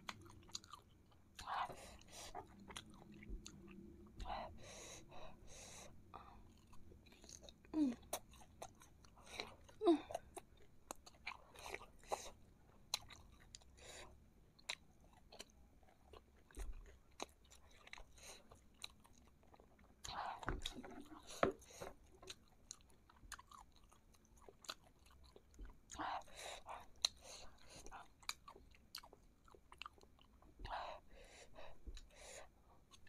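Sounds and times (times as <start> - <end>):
close-miked chewing: 0.0 - 33.0.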